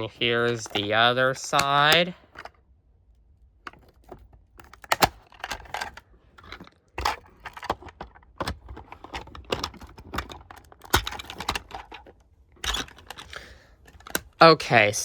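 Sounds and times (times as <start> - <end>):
toy truck handling clicks and rattles: 0.0 - 2.6, 3.7 - 14.5.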